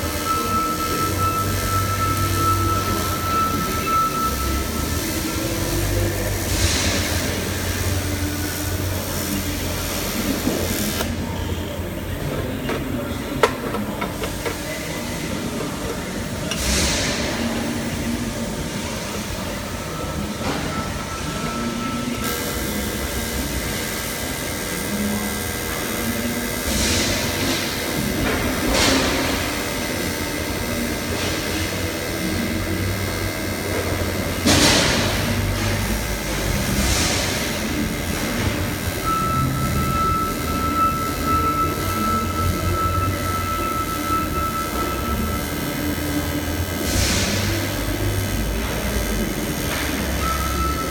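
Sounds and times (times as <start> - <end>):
welding arc buzzing: 0.0 - 50.9.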